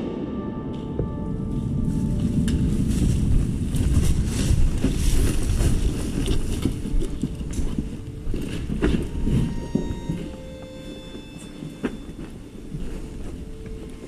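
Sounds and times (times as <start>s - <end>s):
footsteps: 0.0s - 14.0s
wind rumble on microphone: 0.0s - 14.0s
gear rustle: 1.6s - 14.0s.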